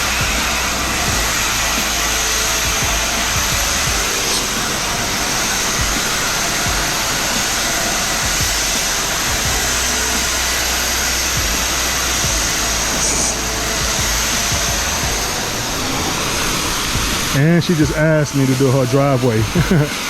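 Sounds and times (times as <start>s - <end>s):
pressure washer spraying: 0.0s - 20.0s.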